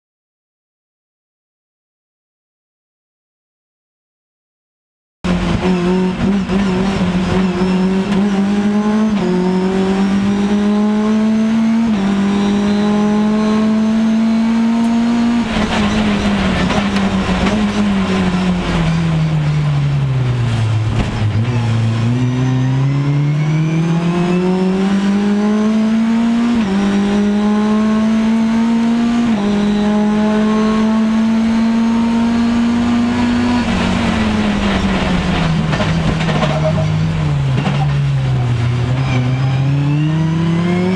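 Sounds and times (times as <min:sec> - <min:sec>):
race car engine revving: 0:05.3 - 0:40.9.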